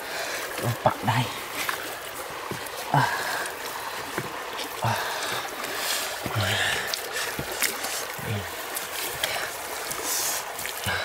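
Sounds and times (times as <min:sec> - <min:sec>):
water sloshing: 0:00.0 - 0:11.0
hands squelching through wet mud: 0:00.4 - 0:11.0.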